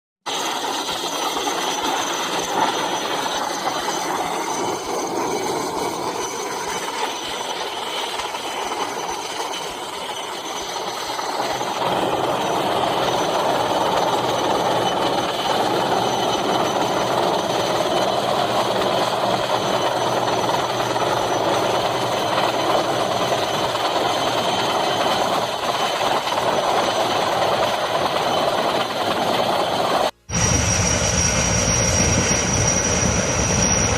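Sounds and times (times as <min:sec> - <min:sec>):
helicopter rotor: 0:00.3 - 0:33.9
turbine whine: 0:00.3 - 0:33.9.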